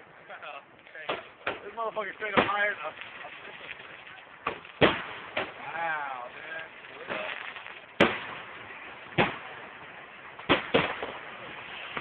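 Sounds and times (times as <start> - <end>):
steady hiss: 0.0 - 12.0
fireworks bangs: 1.0 - 12.0.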